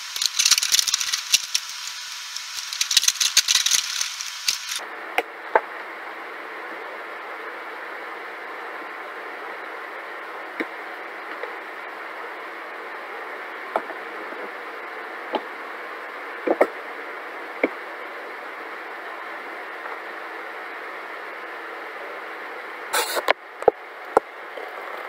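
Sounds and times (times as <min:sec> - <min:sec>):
steady hiss: 0:00.0 - 0:04.8, 0:05.7 - 0:25.0.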